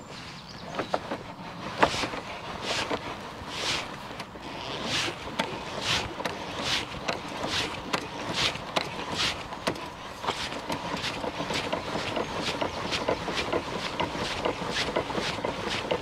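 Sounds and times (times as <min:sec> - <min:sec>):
awning crank swishing and clicking: 0:00.1 - 0:16.0.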